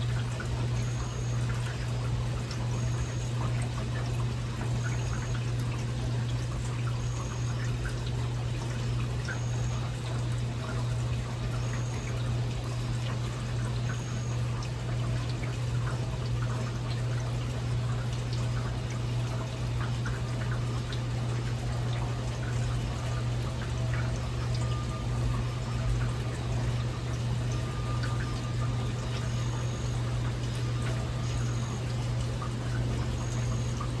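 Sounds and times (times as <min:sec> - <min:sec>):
water pouring and dripping: 0:00.0 - 0:34.0.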